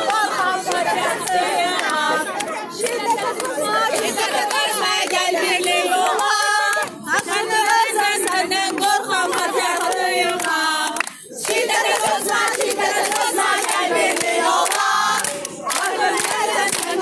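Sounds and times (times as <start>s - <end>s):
crowd chanting in unison: 0.0s - 17.0s
hand clapping: 0.0s - 17.0s.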